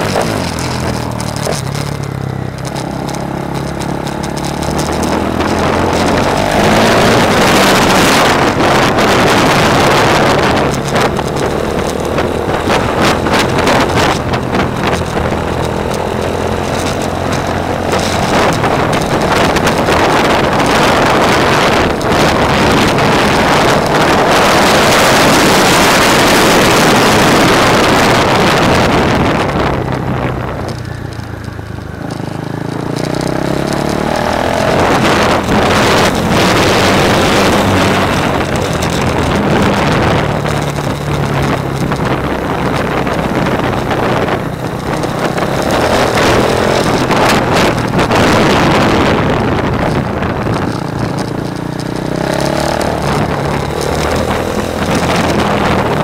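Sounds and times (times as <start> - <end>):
motorcycle engine revving: 0.0 - 56.0
wind noise on microphone: 0.0 - 56.0.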